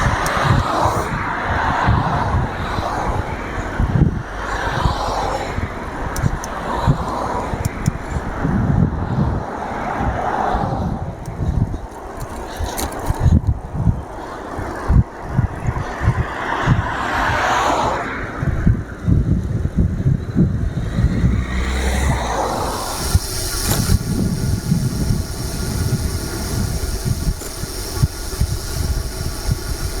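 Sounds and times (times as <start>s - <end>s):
cars passing: 0.0s - 30.0s
wind buffeting microphone: 0.0s - 30.0s.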